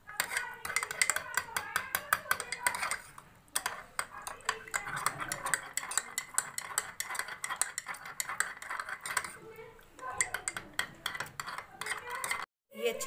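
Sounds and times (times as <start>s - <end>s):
spoon clinking against glass: 0.2s - 9.4s, 10.0s - 12.4s.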